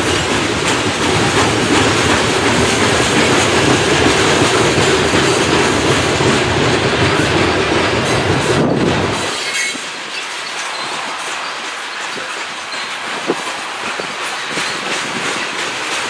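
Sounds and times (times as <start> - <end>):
steel wheels rolling on rails: 0.0 - 16.0.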